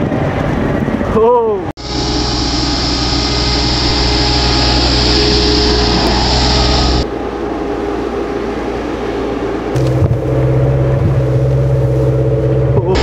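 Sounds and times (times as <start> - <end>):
diesel engine running: 1.8 - 13.0
vehicle splashing through water: 1.8 - 13.0.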